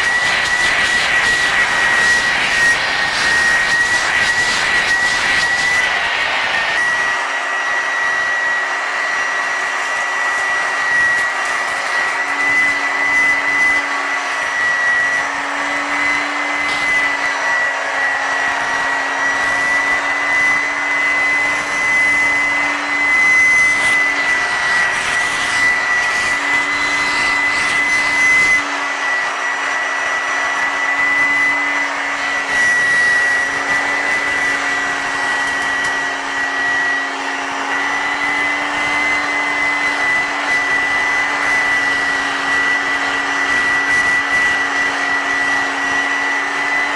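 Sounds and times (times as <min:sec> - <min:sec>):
upright vacuum cleaner running: 0:00.0 - 0:46.9.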